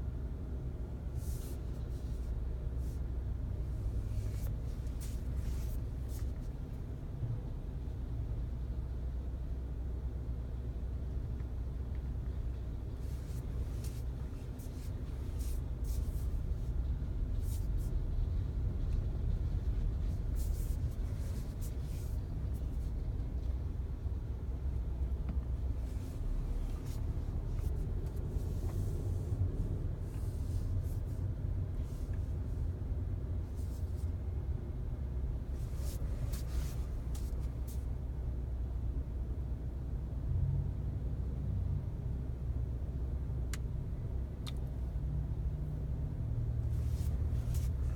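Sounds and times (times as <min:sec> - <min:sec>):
road and engine rumble: 0:00.0 - 0:47.9.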